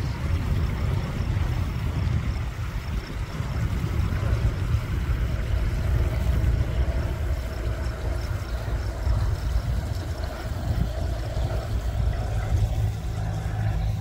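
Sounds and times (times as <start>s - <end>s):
distant propeller plane droning: 0.0s - 14.0s
faint steady hum: 0.0s - 14.0s.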